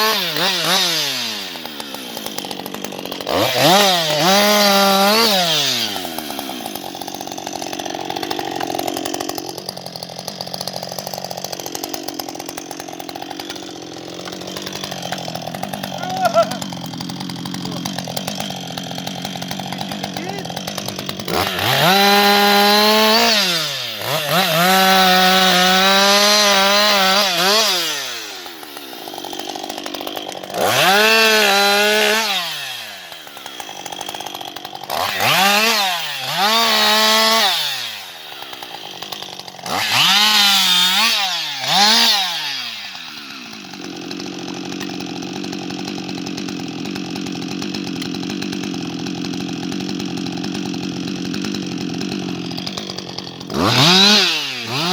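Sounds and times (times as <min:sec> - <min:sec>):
chainsaw idling: 0:00.0 - 0:54.9
chainsaw revving: 0:00.0 - 0:54.9.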